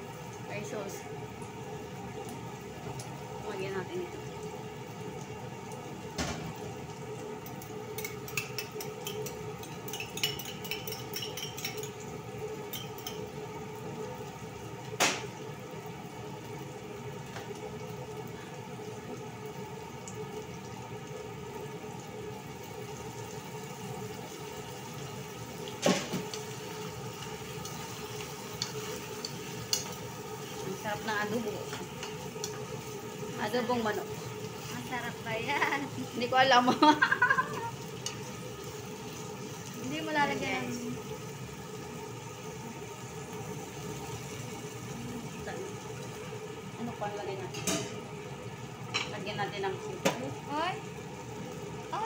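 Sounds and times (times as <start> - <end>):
kitchen hum: 0.0 - 52.0.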